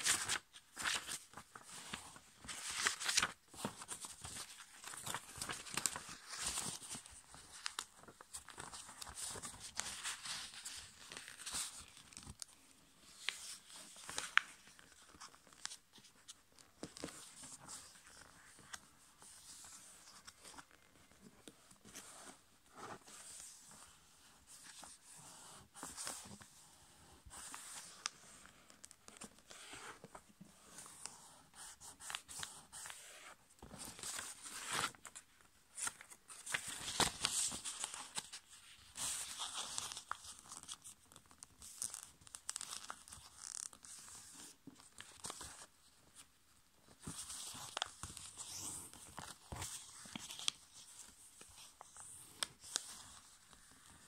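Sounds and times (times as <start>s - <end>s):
paper rustling and crinkling: 0.0s - 26.6s, 27.2s - 54.0s.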